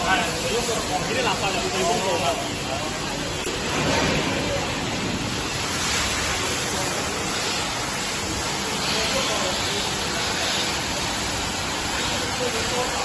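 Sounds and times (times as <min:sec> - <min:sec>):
washing machine rushing hiss: 0:00.0 - 0:13.0.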